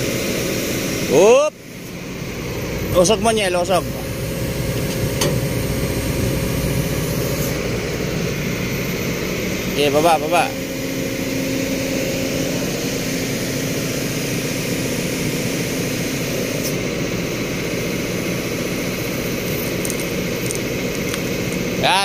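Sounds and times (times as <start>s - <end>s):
excavator diesel engine running: 0.0s - 22.0s
steady hum: 0.0s - 22.0s.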